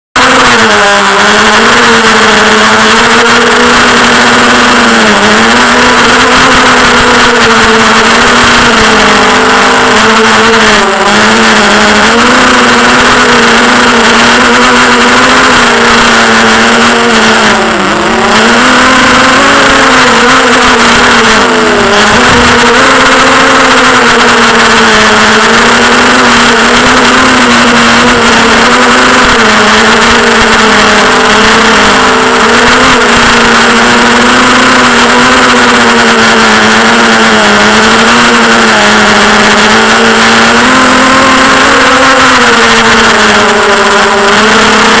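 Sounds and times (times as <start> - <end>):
quadcopter motors humming: 0.0 - 45.0.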